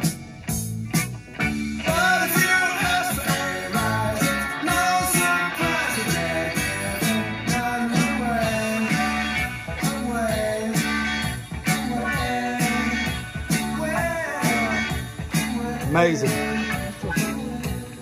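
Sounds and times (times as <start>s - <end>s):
music over loudspeakers: 0.0s - 18.0s.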